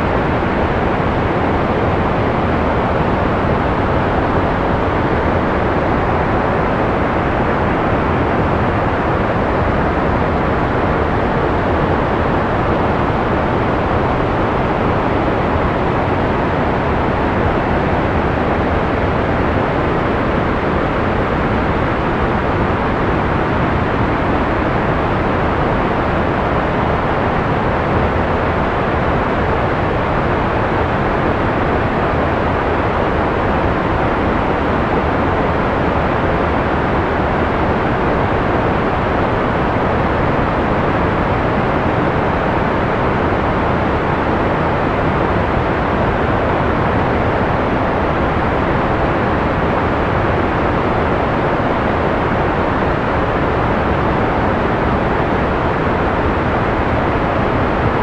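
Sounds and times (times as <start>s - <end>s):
muffled white noise hiss: 0.0s - 58.0s.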